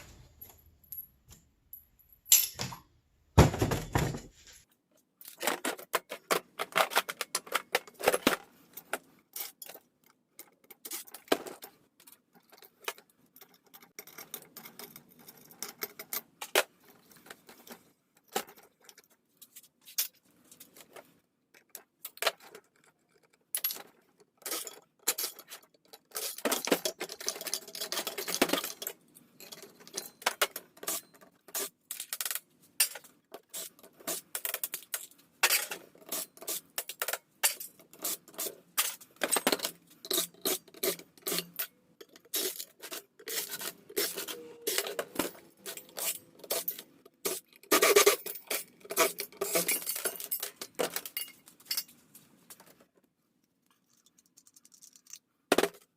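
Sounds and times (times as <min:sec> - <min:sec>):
scrap parts clinking and scraping: 0:03.4 - 0:52.9, 0:53.5 - 0:55.9.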